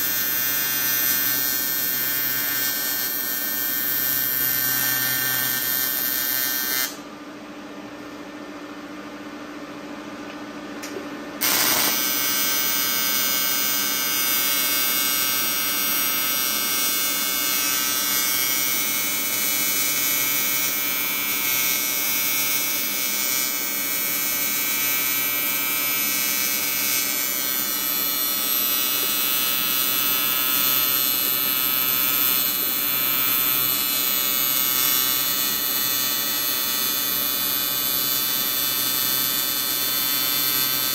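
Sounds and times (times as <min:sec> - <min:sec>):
welding arc buzzing: 0:00.0 - 0:07.0, 0:11.4 - 0:40.9.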